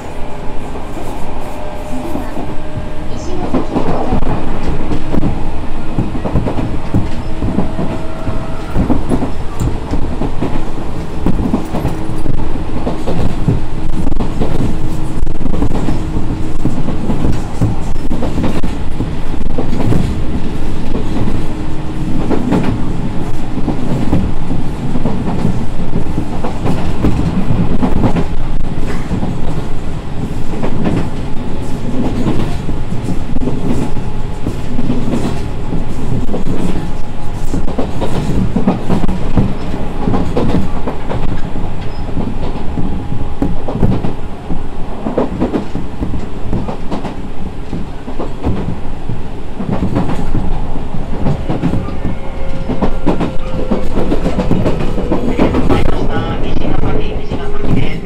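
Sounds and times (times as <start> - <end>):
rail joints clickety-clack: 0.0 - 58.0
train wheels rumbling on rails: 0.0 - 58.0.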